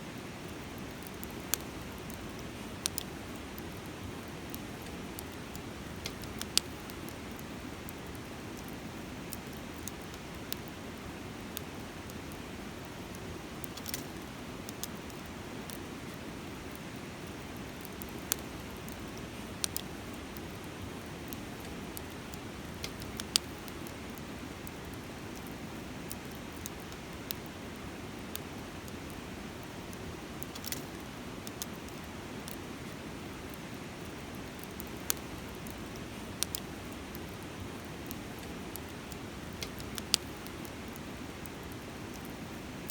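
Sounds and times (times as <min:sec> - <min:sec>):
campfire crackling and popping: 0:00.1 - 0:42.9.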